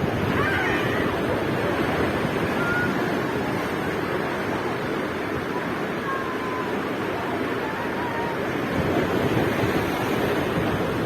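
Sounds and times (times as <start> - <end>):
sea surf washing ashore: 0.0 - 11.0.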